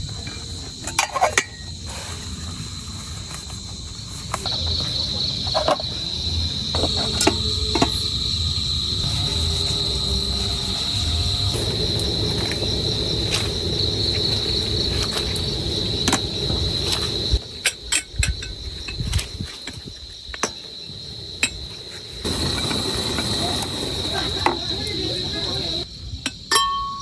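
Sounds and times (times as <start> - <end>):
crickets trilling: 0.0 - 27.0.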